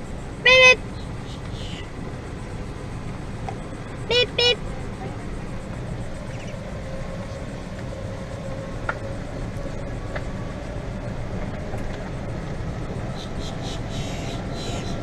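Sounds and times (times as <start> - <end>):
golf cart motor and tyres: 0.0 - 15.0.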